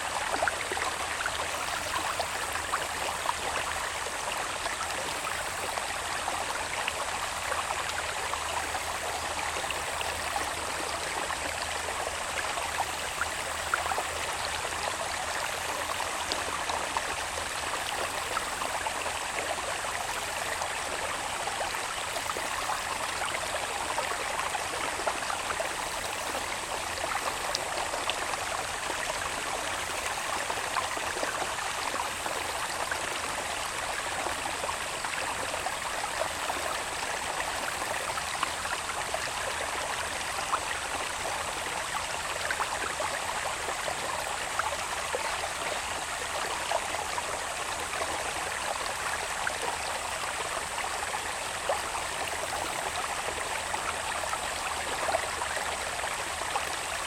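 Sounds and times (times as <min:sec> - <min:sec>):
water babbling in a channel: 0:00.0 - 0:57.0.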